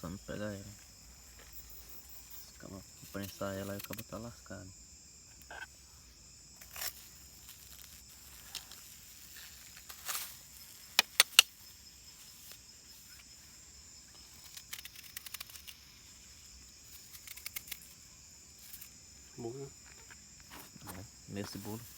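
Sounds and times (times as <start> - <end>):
insects chirring: 0.0 - 21.9.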